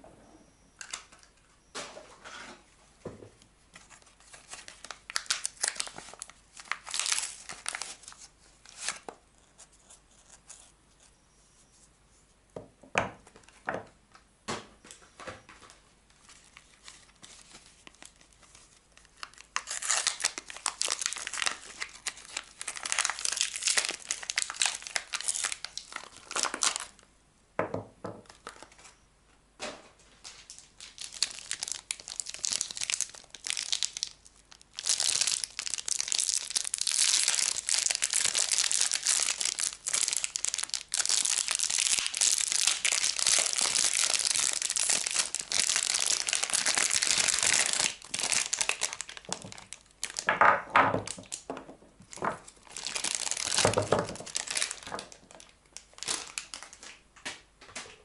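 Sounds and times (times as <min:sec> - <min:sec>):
plastic wrapper crinkling: 0:03.8 - 0:10.6, 0:15.6 - 0:27.1, 0:28.2 - 0:29.0, 0:30.2 - 0:58.0.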